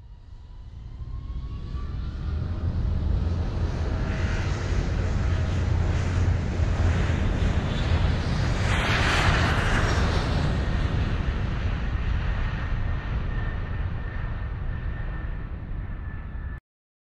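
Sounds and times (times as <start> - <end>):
wind rumble on microphone: 0.0 - 16.6
model airplane flying past: 0.1 - 16.6.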